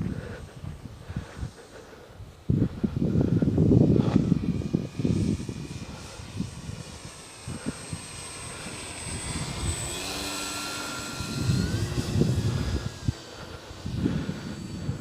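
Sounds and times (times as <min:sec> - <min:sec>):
model plane motor whine: 0:00.0 - 0:15.0
wind buffeting microphone: 0:00.0 - 0:15.0.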